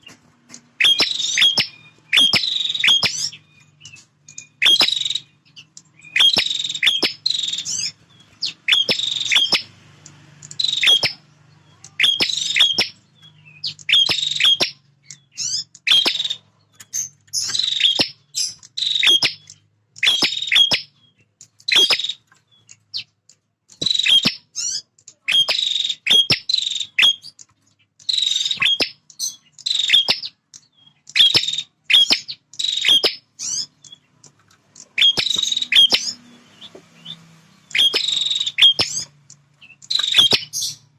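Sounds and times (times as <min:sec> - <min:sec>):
bird chirping sharply: 0:00.0 - 0:40.9.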